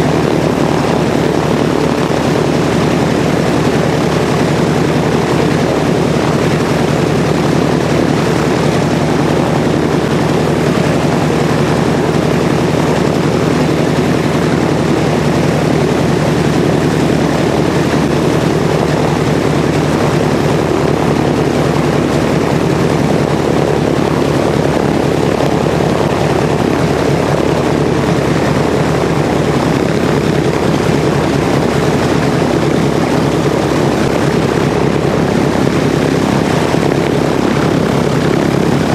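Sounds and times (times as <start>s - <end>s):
radial aircraft engine running: 0.0s - 38.9s.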